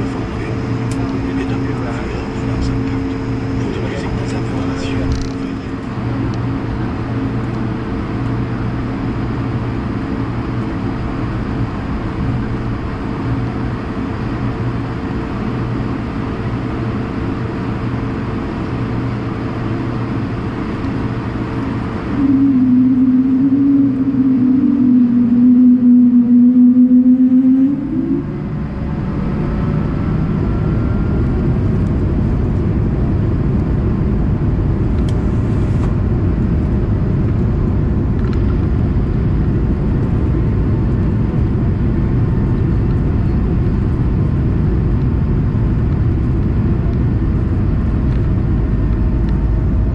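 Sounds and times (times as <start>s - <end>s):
loud wavering drone: 0.0s - 45.8s
aircraft cabin hum: 0.0s - 49.9s
jet engine spooling whine: 0.0s - 49.9s.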